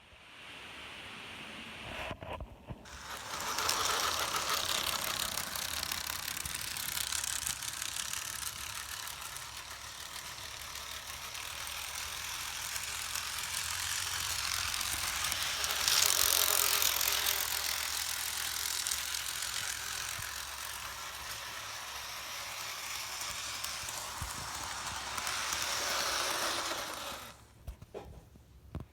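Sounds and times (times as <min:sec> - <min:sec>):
model train clattering on track: 0:02.9 - 0:28.3.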